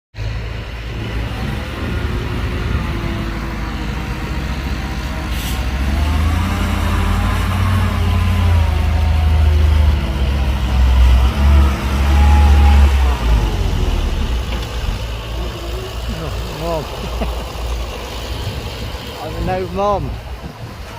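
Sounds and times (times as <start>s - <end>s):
heavy diesel engine under load: 0.1s - 20.9s.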